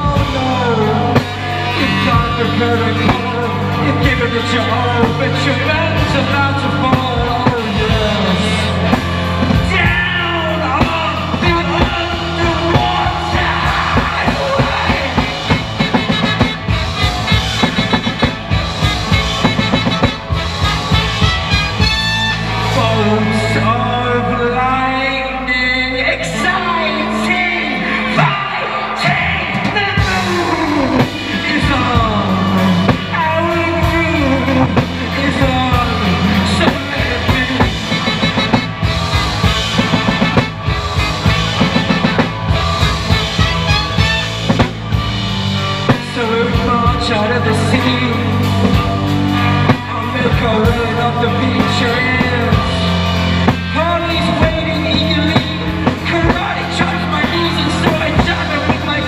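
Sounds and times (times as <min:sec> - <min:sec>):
driving drum kit beat: 0:00.0 - 0:24.7, 0:26.2 - 0:59.0
live rock band playing: 0:00.0 - 0:59.0.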